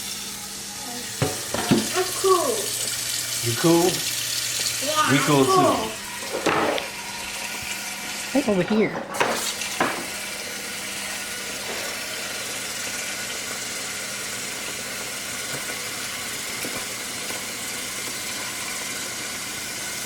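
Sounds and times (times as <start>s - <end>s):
tap water filling pot: 0.0s - 20.0s.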